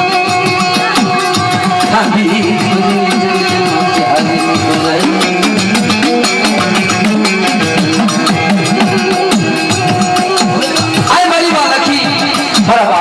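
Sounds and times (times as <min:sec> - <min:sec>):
sliding melody: 0:00.0 - 0:12.6
devotional folk music: 0:00.0 - 0:13.0
fast steady drumming: 0:00.0 - 0:13.0.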